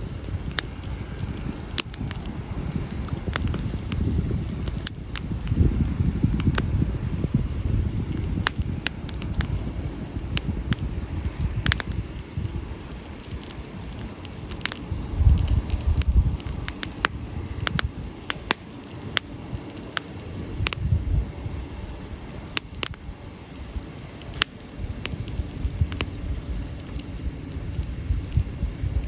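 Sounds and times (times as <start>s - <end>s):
wood campfire crackling: 0.0s - 29.0s.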